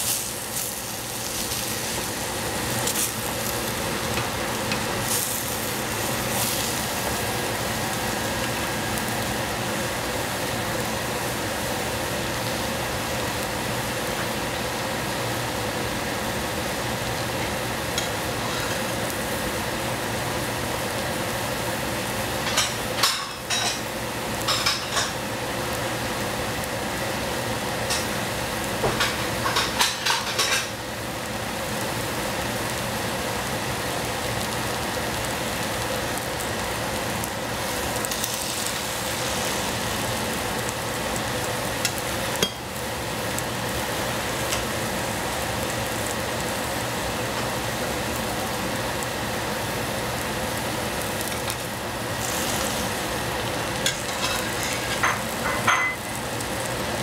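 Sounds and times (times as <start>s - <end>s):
vegetables sizzling in a saucepan: 0.0s - 57.0s.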